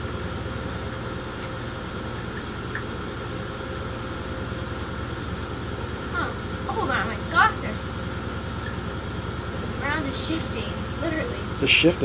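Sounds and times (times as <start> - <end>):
buzzing rattle of sand tub: 0.0 - 12.0
machine hum: 0.0 - 12.0.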